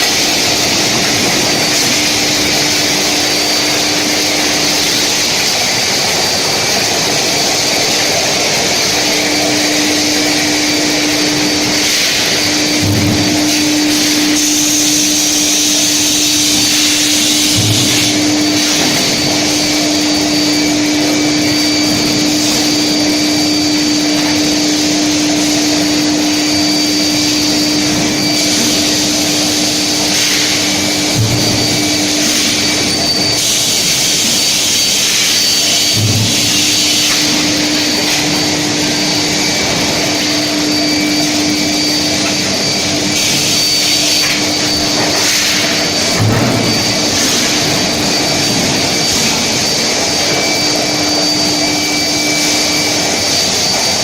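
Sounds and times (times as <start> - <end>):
furnace machine hum: 0.0 - 54.0
high whine: 0.0 - 54.0.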